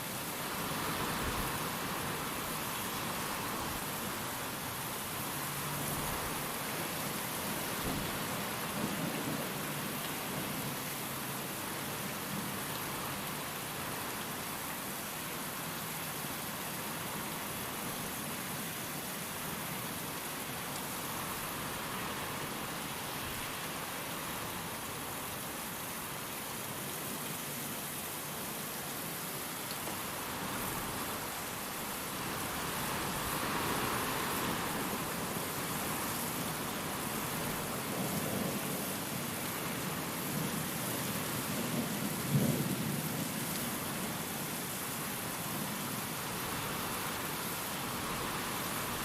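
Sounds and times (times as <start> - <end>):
steady rain: 0.0 - 49.0
wind: 0.0 - 49.0.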